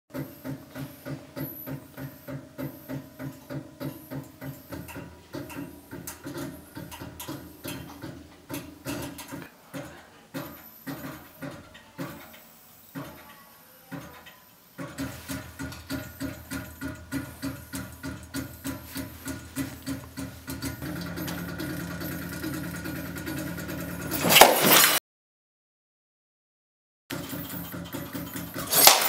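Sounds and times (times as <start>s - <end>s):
mechanical clicking and whirring: 0.1s - 24.9s.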